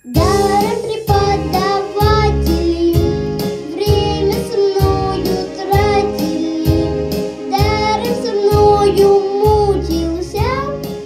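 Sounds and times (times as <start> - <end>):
boy singing into a microphone: 0.0 - 6.9, 7.5 - 10.9
pop backing track: 0.0 - 11.0.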